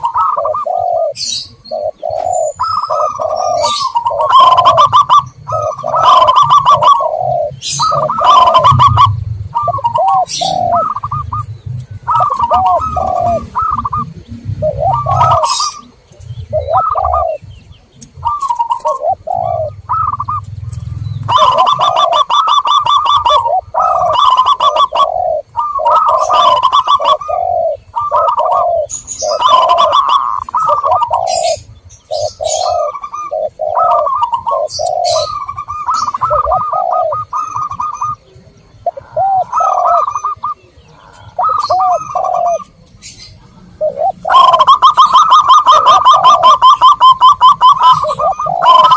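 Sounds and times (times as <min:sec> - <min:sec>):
doves cooing: 0:00.0 - 0:48.9
small birds chirping: 0:00.0 - 0:48.9.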